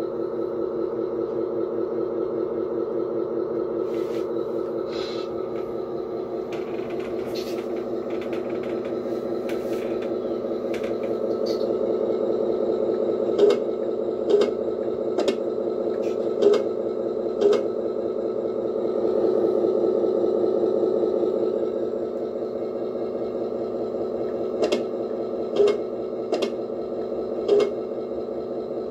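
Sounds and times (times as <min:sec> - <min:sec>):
diesel idle from small speaker: 0:00.0 - 0:28.9.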